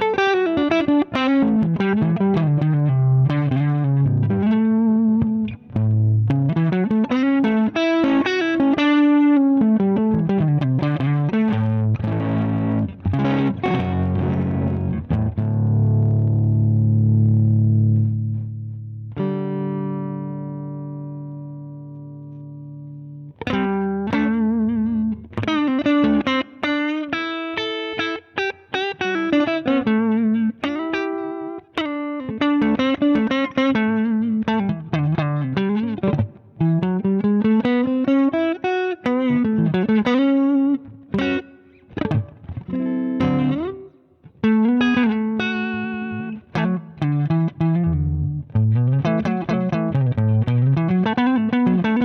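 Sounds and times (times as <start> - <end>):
overdriven electric guitar lead: 0.0 - 52.0.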